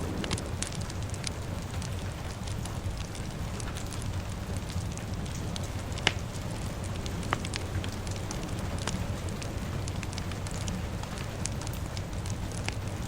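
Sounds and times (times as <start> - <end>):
fire crackling: 0.0 - 13.0
steady rain: 0.0 - 13.0.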